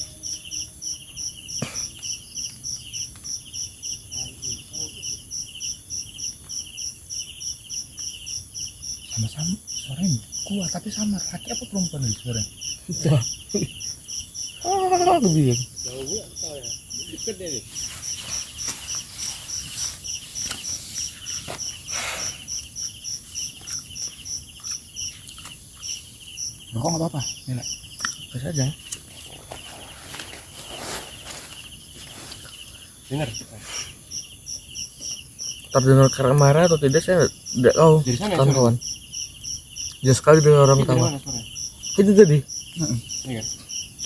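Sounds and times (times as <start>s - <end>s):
insects chirping: 0.0s - 44.0s.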